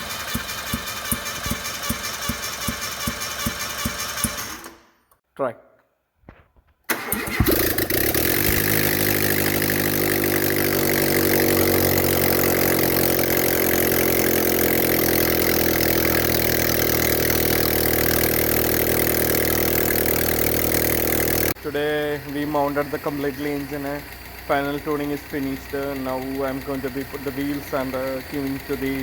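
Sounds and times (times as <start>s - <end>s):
car engine idling: 0.0s - 4.6s, 7.5s - 29.0s.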